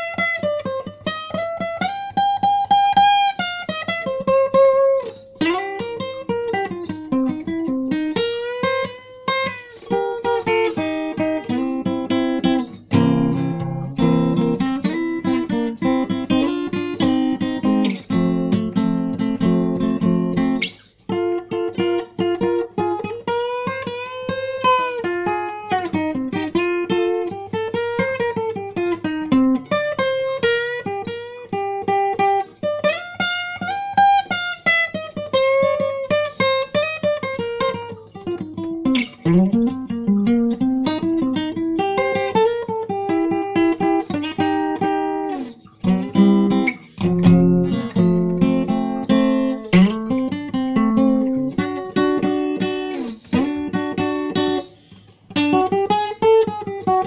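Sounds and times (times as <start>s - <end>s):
acoustic guitar picked notes: 0.0s - 57.0s
plucked string melody: 0.0s - 57.0s.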